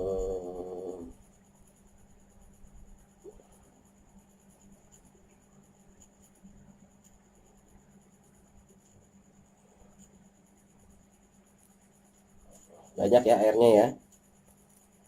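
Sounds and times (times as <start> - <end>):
low steady hum: 0.0 - 15.0
faint ticks: 0.5 - 13.1, 14.0 - 15.0.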